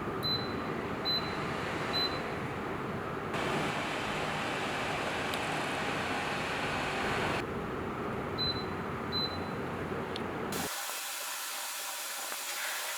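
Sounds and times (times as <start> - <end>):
air cooler fan blowing: 0.0 - 12.9.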